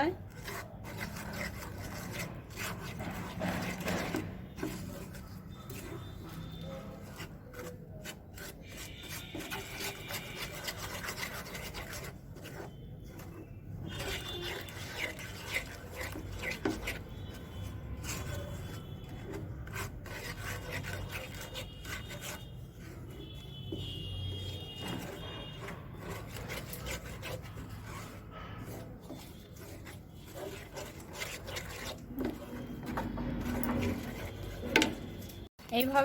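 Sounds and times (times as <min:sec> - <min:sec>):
utensil scraping a pan: 0:00.0 - 0:36.0.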